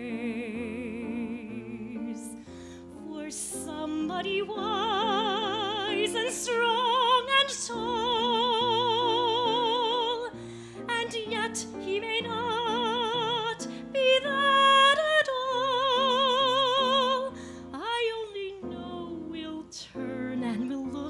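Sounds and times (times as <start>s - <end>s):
piano chords: 0.0s - 21.0s
soprano singing a ballad: 0.0s - 21.0s.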